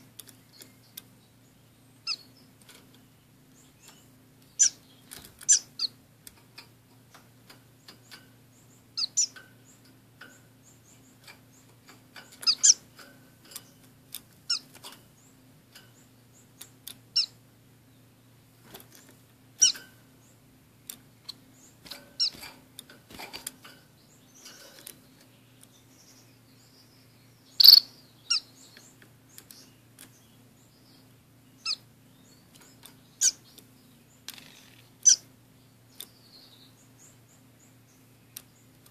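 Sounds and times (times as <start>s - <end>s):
finches chirping: 0.0s - 38.9s.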